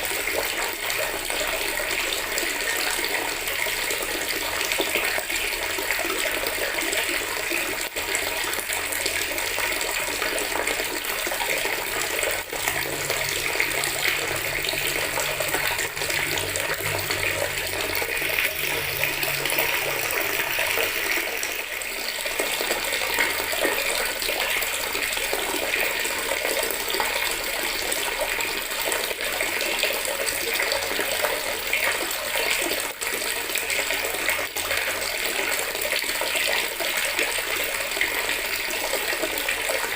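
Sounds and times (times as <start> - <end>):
tap water pouring into bucket: 0.0 - 39.9.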